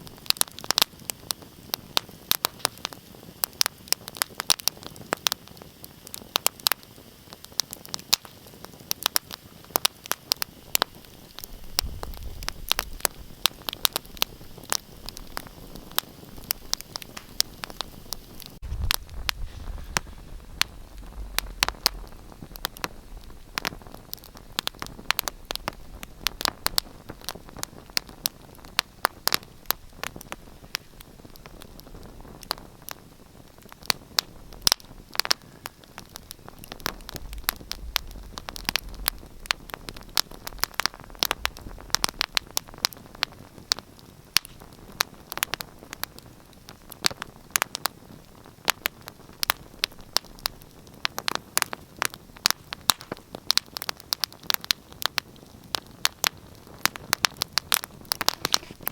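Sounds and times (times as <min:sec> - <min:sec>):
low rumble of flames: 0:00.0 - 0:58.9
steady hiss of fire: 0:00.0 - 0:58.9
wood fire crackling: 0:00.0 - 0:58.9.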